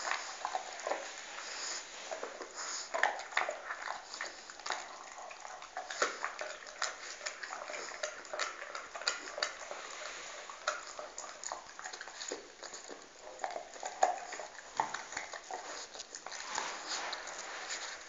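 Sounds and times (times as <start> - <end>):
dog gnawing a bone: 0.0 - 18.0.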